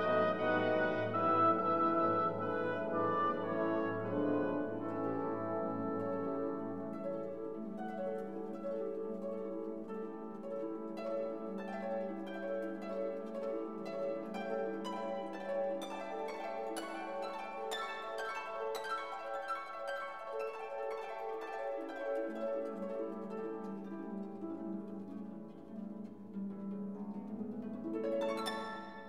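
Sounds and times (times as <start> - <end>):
plucked instrumental music: 0.0 - 29.0.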